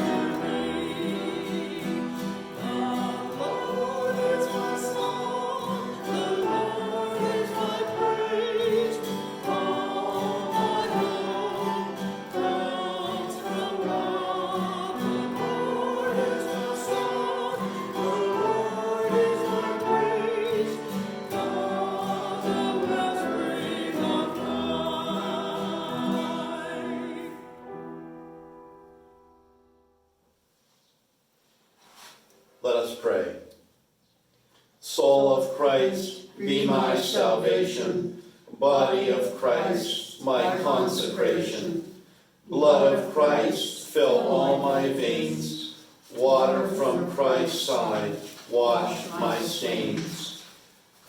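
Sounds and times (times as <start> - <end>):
choir singing held chords: 0.0 - 28.4, 34.9 - 50.6.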